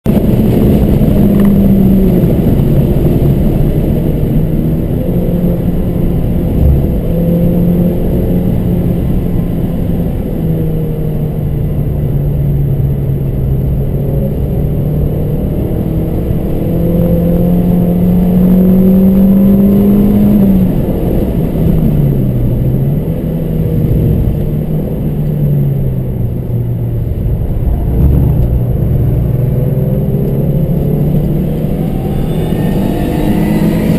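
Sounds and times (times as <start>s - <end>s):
road and wind noise: 0.0s - 33.9s
car engine accelerating: 0.1s - 33.9s.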